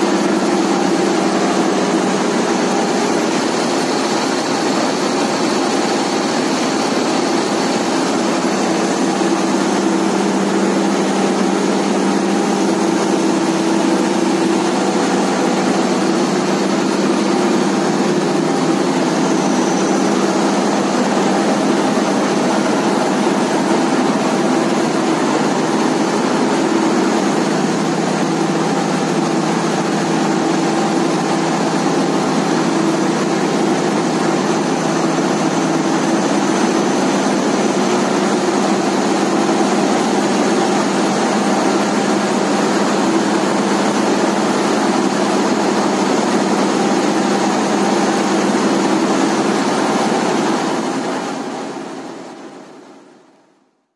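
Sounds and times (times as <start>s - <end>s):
marine diesel engine drone: 0.0s - 53.1s.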